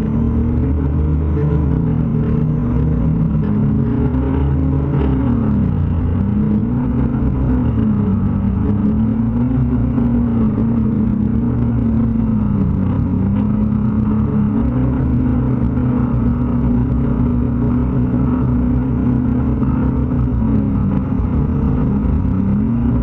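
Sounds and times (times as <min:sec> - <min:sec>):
drone motors buzzing: 0:00.0 - 0:23.0.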